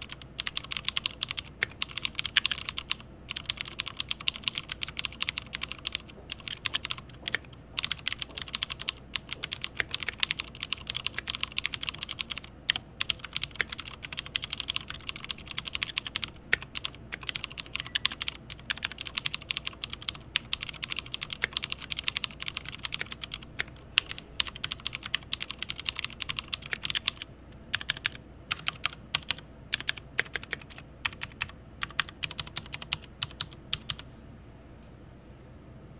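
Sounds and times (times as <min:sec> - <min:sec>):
fast typing on mechanical keyboard: 0:00.0 - 0:34.0.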